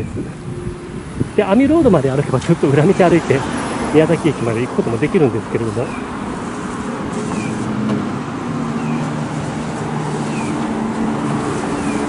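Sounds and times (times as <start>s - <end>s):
constant hiss: 0.0s - 12.0s
traffic engines humming: 0.0s - 12.0s.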